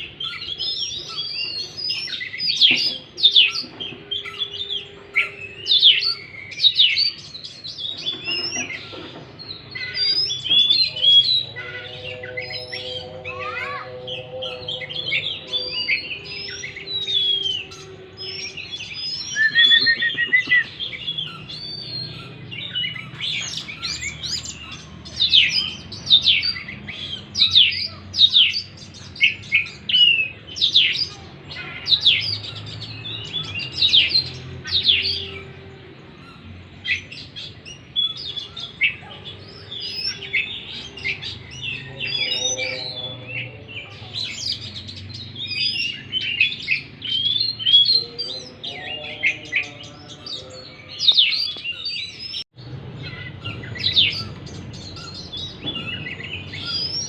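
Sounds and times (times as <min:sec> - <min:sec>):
magpie-robin singing: 0:00.0 - 0:57.0.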